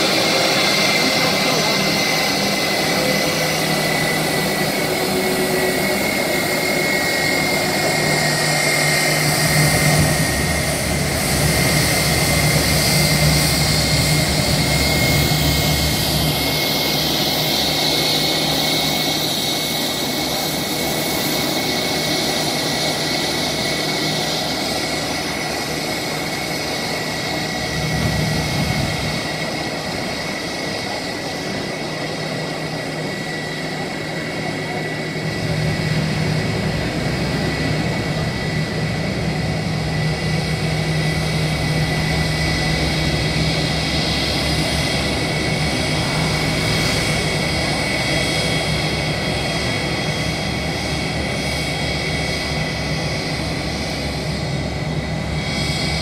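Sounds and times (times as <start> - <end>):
jet engines whining and rumbling: 0.0 - 56.0.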